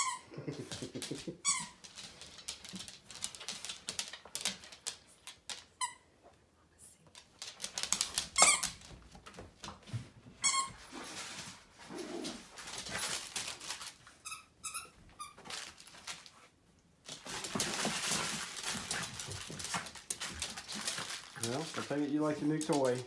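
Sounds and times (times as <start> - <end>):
puppies scuffling and rustling: 0.5 - 5.8, 6.9 - 23.0.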